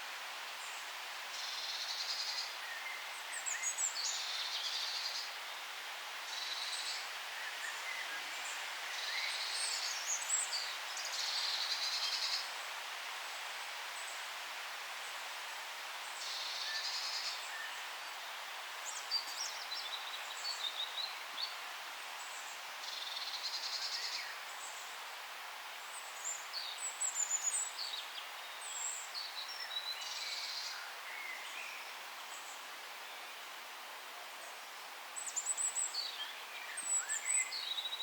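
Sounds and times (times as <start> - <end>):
steady background hiss: 0.0 - 38.0
forest birds singing: 0.6 - 5.6, 6.3 - 12.6, 16.0 - 25.0, 25.8 - 33.5, 34.4 - 38.0.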